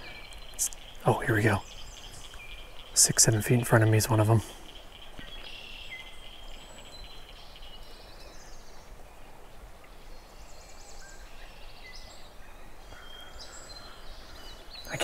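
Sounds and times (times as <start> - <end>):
low outdoor hiss: 0.0 - 15.0
songbirds singing: 0.0 - 15.0.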